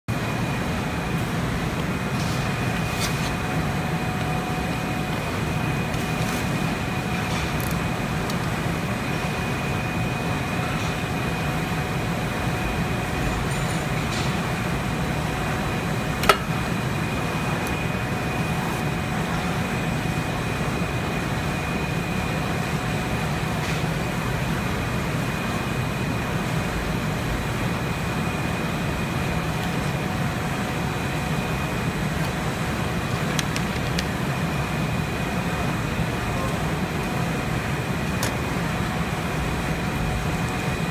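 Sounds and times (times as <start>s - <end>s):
factory machinery humming: 0.1s - 40.9s
high constant whine: 0.1s - 40.9s.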